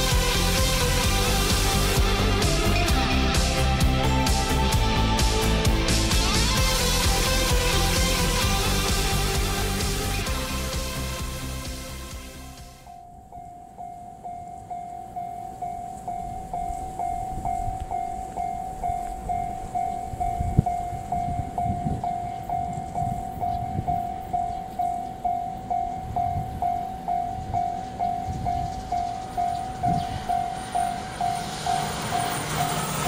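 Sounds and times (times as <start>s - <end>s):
level crossing warning bell: 0.0s - 11.2s, 12.8s - 33.0s
electric train rumble: 0.0s - 33.0s.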